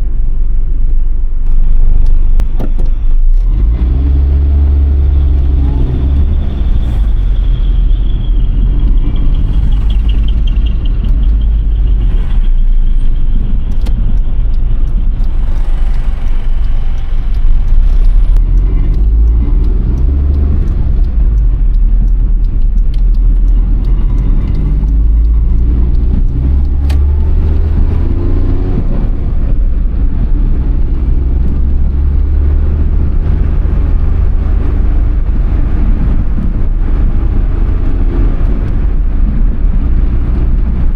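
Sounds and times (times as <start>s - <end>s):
road rumble: 0.0s - 40.9s
car engine revving: 3.3s - 40.9s.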